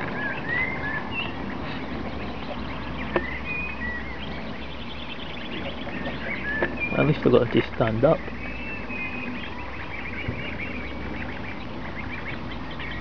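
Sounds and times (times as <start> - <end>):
goslings peeping: 0.0 - 13.0.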